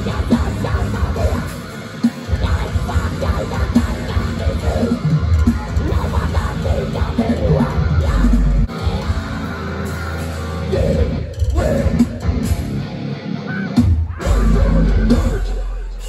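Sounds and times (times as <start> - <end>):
drums: 0.0 - 16.0
heavy guitars: 0.0 - 16.0
yelled vocals: 0.0 - 16.0.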